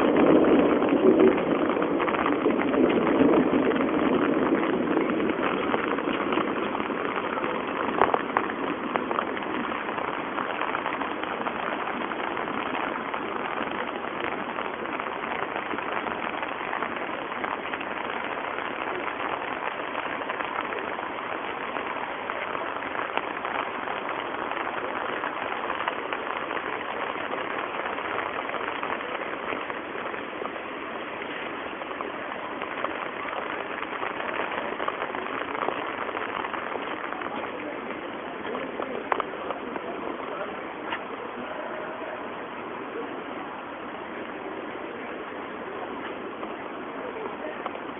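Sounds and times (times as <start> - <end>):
rain falling on pond: 0.0 - 47.9.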